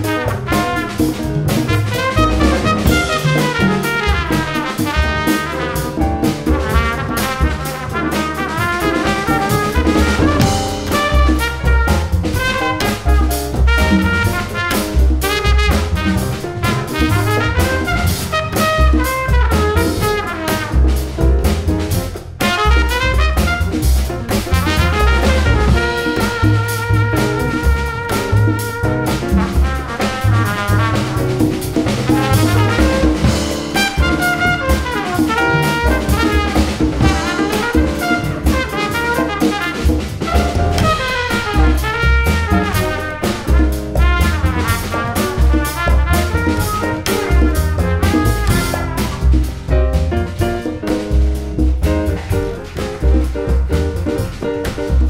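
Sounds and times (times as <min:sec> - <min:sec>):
trumpet melody: 0:00.0 - 0:21.2, 0:22.4 - 0:50.7
drums and congas: 0:00.0 - 0:55.0
upright bass: 0:00.0 - 0:55.0.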